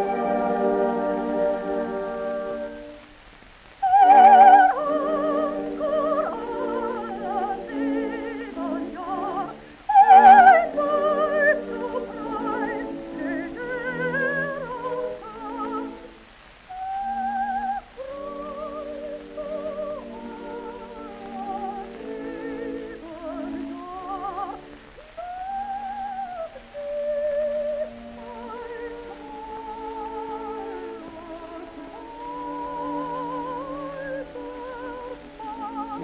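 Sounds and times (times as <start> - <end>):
operatic soprano singing: 0.0 - 3.0, 3.8 - 36.0
orchestral accompaniment: 0.0 - 3.1, 3.8 - 36.0.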